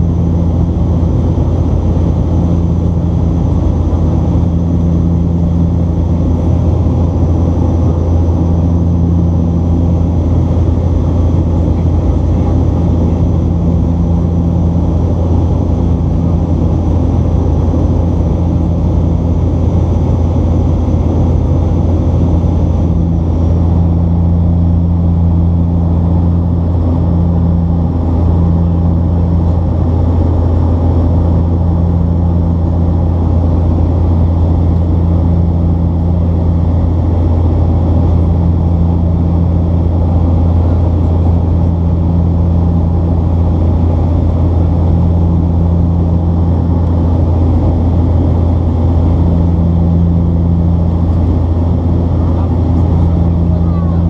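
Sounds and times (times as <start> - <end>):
pulsing tone above hum: 0.0 - 54.0
turboprop cabin drone: 0.0 - 54.0.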